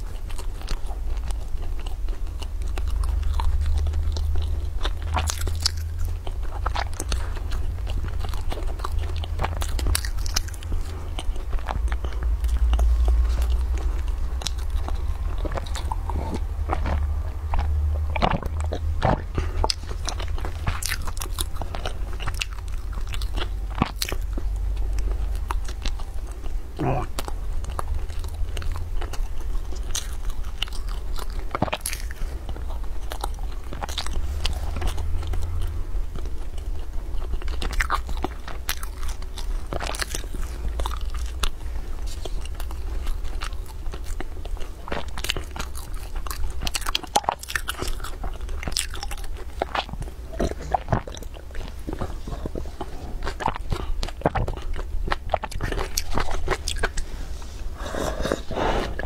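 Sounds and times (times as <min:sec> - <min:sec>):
chewing crispy food: 0:00.0 - 0:59.0
low steady hum: 0:00.0 - 0:59.0.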